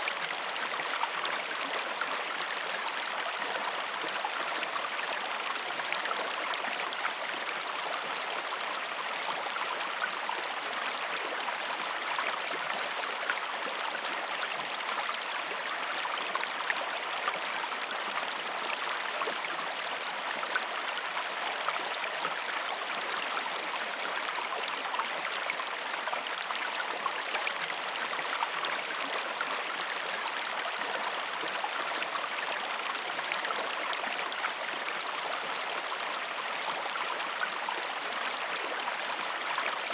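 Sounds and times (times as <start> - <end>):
river water flowing and splashing: 0.0 - 39.9.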